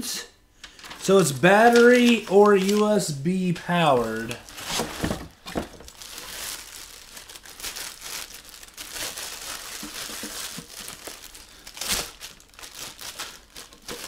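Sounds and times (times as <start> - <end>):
plastic bag crinkling: 0.7 - 14.0.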